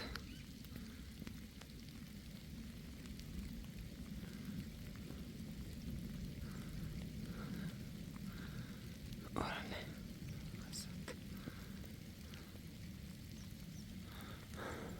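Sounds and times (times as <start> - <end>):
light rain falling: 0.0 - 14.9
low steady rumble: 0.0 - 14.9.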